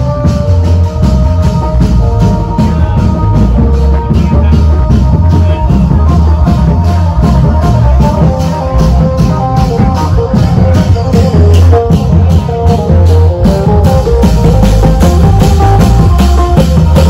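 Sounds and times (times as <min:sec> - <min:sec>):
loud music with heavy bass beat: 0:00.0 - 0:17.0.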